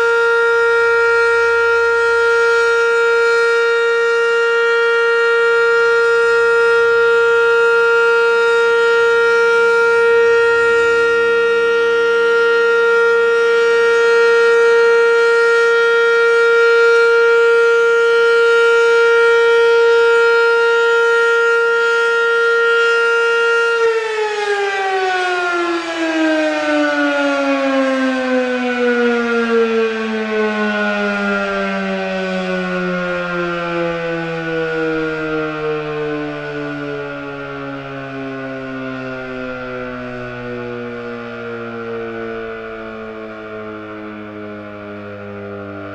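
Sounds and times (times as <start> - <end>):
warning siren: 0.0 - 45.9.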